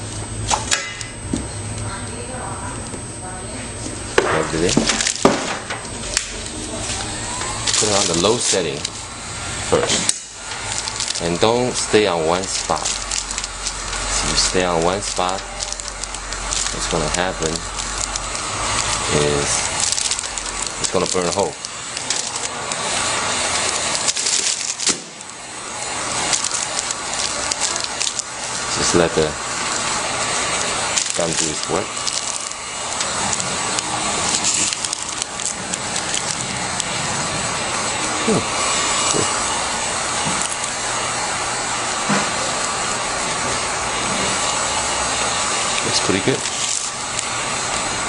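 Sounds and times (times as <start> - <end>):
heat gun blowing: 3.9 - 48.0
plastic film crackling: 4.4 - 48.0.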